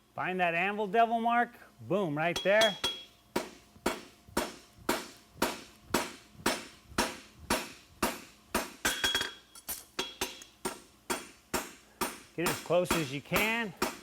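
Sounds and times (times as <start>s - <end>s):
hammer striking metal on anvil: 2.3s - 14.0s.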